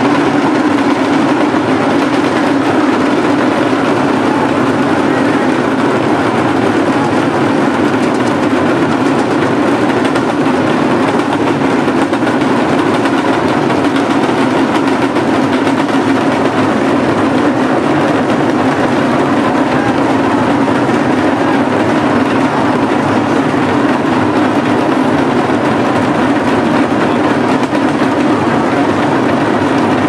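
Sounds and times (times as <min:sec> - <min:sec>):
din of large crowd: 0:00.0 - 0:30.0.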